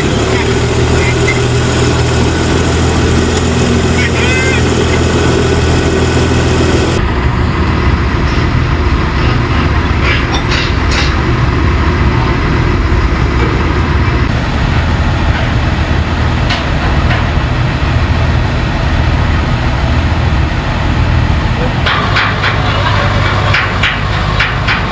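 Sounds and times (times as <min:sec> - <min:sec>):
diesel engine idling: 0:00.0 - 0:24.9.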